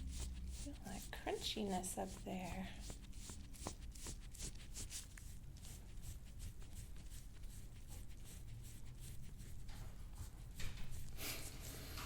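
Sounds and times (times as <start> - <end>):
hands rubbing on skin and clothing: 0.0 - 12.0.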